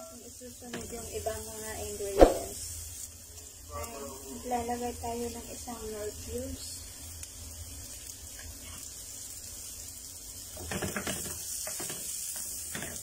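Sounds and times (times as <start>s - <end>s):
aromatics sizzling in frying pan: 0.0s - 13.0s.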